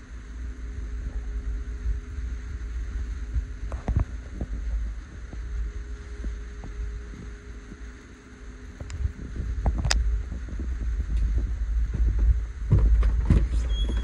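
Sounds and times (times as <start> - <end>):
low rumble of handled phone: 0.0 - 14.0.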